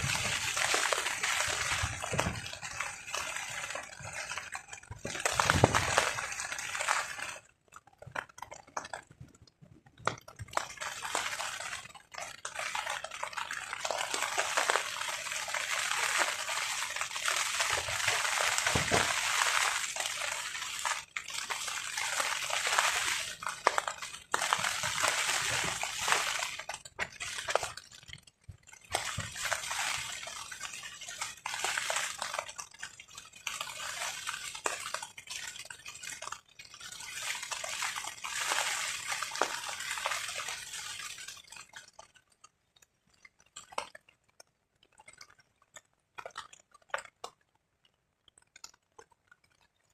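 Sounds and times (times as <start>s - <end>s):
rain pattering on a tarp: 0.0s - 49.9s.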